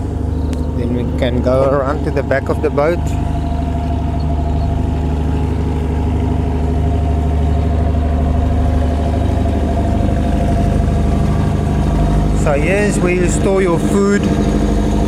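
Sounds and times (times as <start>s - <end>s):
boat engine droning: 0.0s - 15.0s
steady hum: 0.0s - 15.0s.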